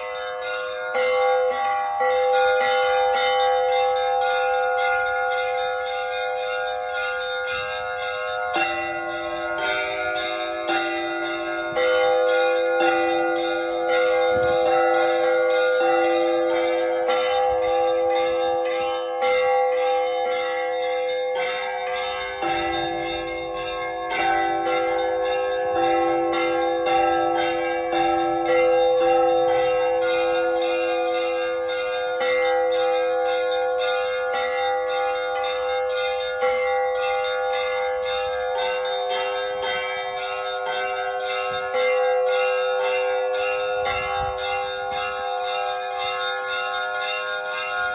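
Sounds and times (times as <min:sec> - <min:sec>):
larger bells ringing: 0:00.0 - 0:47.9
lower-pitched bell: 0:00.0 - 0:47.9
small bells struck quickly: 0:00.0 - 0:47.9.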